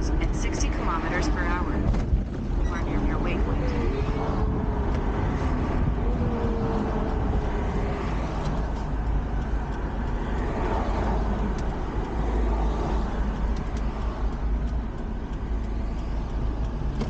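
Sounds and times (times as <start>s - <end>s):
vehicle road rumble: 0.0s - 17.0s.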